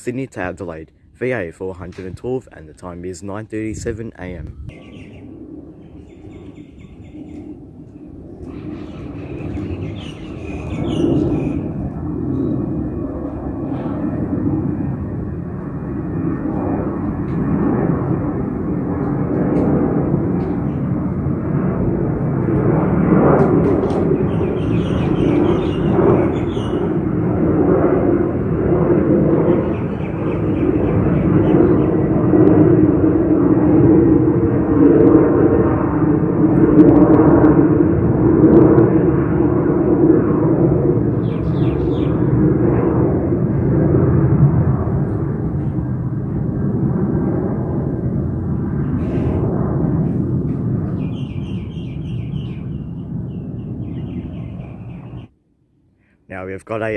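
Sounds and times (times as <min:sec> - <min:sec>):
jet taking off: 0:00.0 - 0:55.3.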